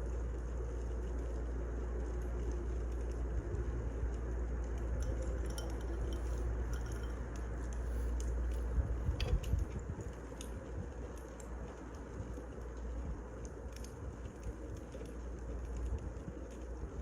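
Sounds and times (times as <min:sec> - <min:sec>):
firewood burning and crackling: 0:00.0 - 0:17.0.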